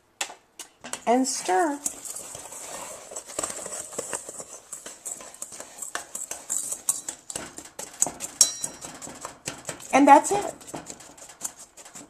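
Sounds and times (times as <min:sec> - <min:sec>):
spoon scraping powder in bowl: 0:01.3 - 0:12.0.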